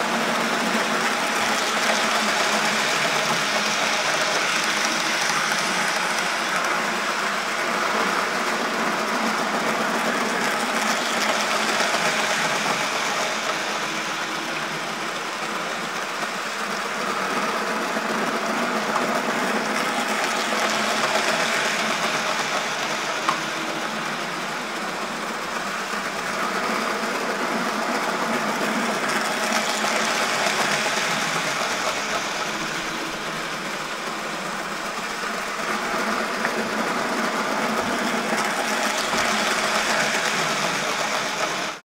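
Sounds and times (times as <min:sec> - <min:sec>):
model train motors whirring: 0:00.0 - 0:41.8.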